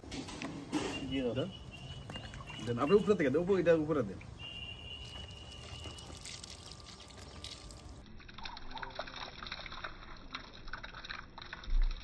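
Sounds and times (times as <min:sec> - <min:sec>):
water trickling onto soil: 0:01.1 - 0:12.0.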